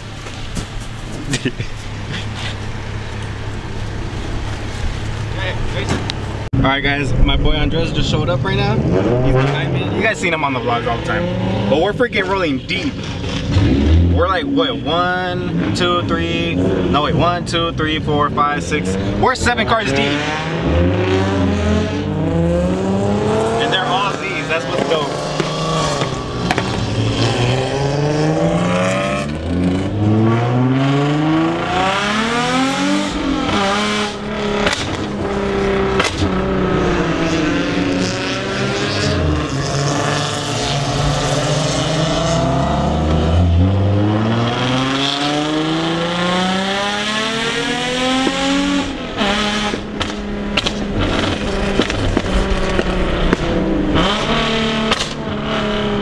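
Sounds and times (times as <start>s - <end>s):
car exhaust accelerating: 0.0s - 56.0s
steady engine drone: 0.0s - 56.0s.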